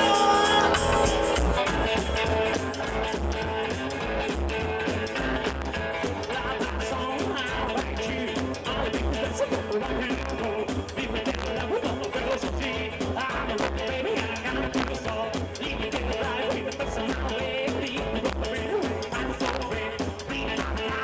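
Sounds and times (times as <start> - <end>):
instrumental rockabilly band: 0.0 - 21.0.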